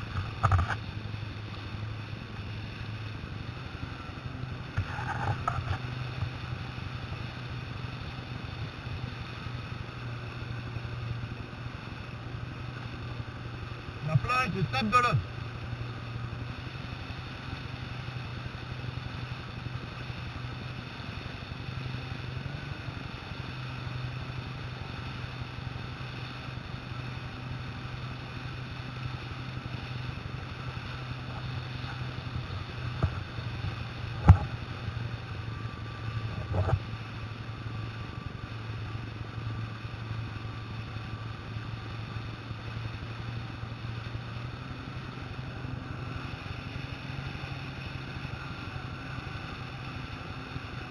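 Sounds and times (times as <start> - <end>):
jet ski engine running: 0.0 - 50.9
water rushing: 0.0 - 50.9.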